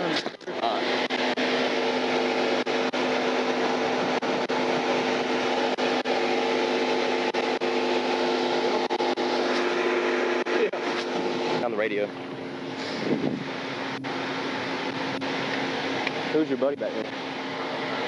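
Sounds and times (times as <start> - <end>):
droning tones: 0.0 - 18.0
steady mechanical hum: 0.0 - 18.0.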